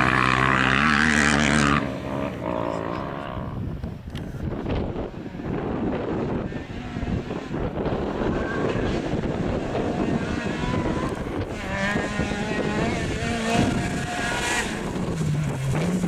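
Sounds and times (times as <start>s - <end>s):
rally car engine revving: 0.0s - 16.0s
wind rumbling on microphone: 0.0s - 16.0s.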